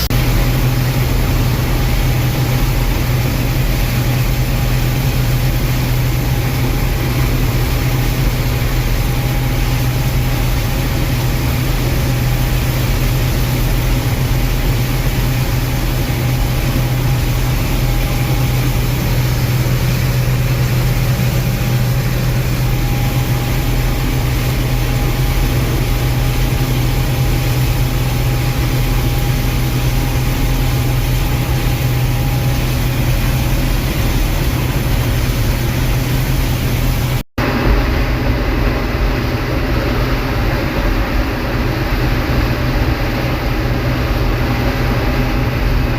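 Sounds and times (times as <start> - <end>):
combine engine drone: 0.0 - 45.9.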